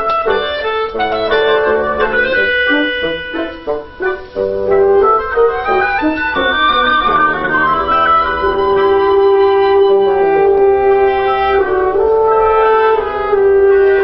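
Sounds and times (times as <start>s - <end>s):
wind quintet playing: 0.0s - 14.0s.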